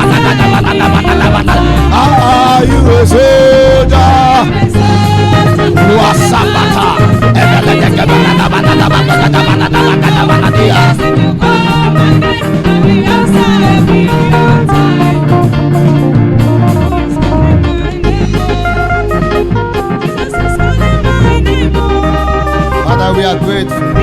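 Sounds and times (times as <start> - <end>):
band playing guitar bass and drums: 0.0 - 24.0.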